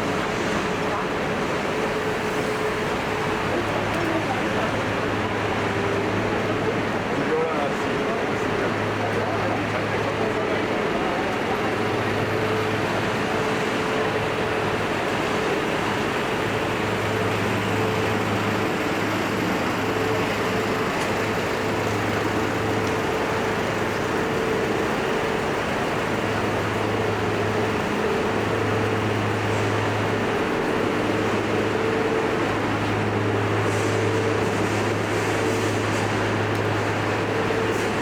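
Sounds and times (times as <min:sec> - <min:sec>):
traffic rush: 0:00.0 - 0:38.0.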